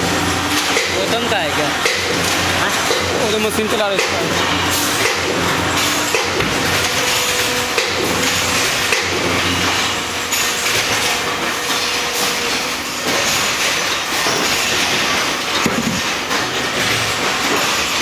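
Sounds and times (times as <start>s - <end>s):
hydraulic baling press whine: 0.0s - 18.0s.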